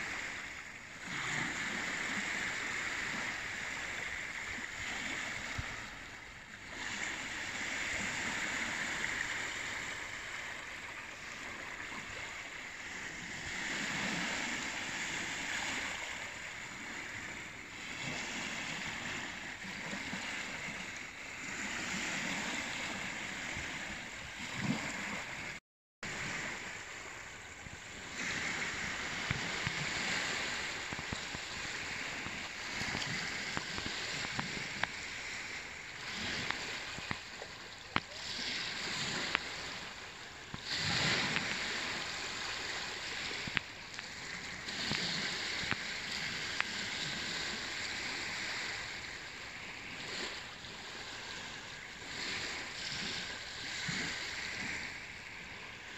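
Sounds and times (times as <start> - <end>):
waves lapping on sandy shore: 0.0 - 55.9.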